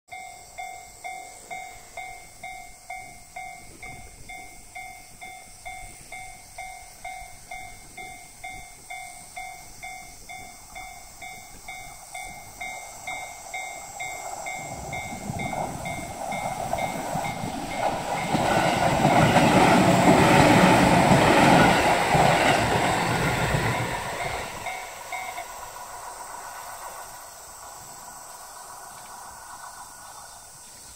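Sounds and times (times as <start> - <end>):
level crossing warning bell ringing: 0.1 - 25.9
electric train passing loudly: 0.1 - 30.9.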